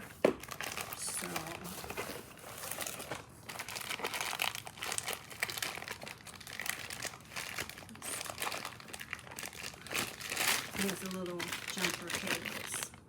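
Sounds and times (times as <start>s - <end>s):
carry case crinkling and rustling: 0.0s - 13.0s.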